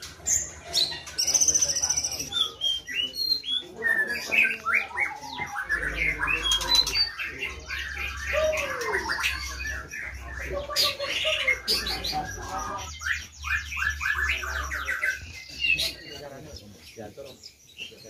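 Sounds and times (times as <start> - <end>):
songbirds whistling and chirping: 0.0 - 18.0.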